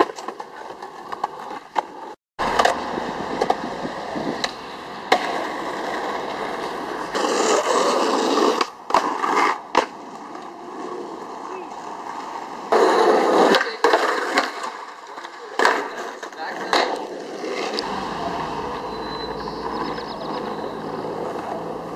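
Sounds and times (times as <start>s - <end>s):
skateboard clacking on ground: 0.0s - 18.7s, 19.6s - 21.9s
skateboard wheels rolling: 0.0s - 21.9s.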